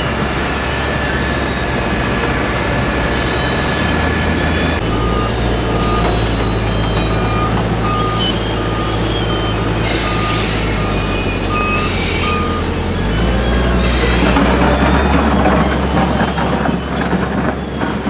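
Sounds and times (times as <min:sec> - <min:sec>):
diesel engine hum: 0:00.0 - 0:18.0
reversing alarm beeping: 0:00.0 - 0:18.0.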